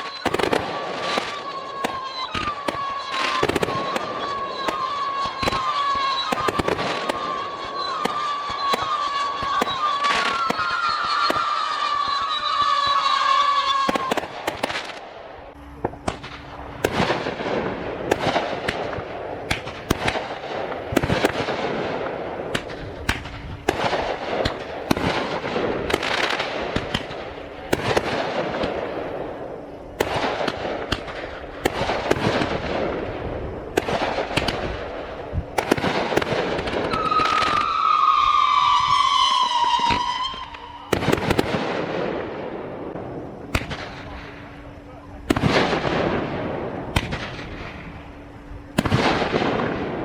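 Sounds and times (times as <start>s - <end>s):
firework whistle gliding downward: 0.0s - 50.0s
fireworks bangs and crackling: 0.0s - 50.0s.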